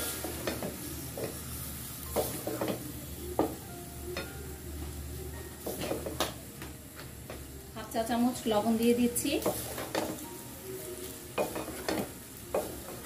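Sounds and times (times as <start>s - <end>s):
oil sizzling lightly: 0.0s - 13.0s.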